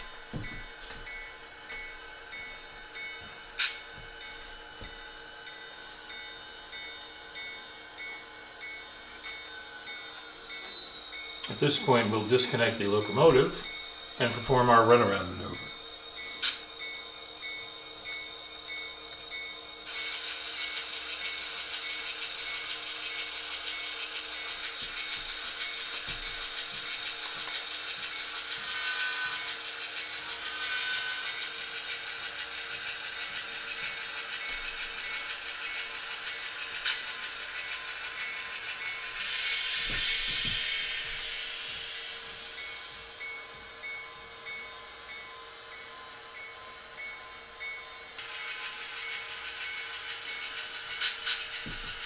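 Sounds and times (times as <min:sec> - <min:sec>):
high whine rising in pitch: 0:00.0 - 0:52.0
locomotive bell ringing: 0:00.0 - 0:52.0
model train motor whirring: 0:00.0 - 0:52.0.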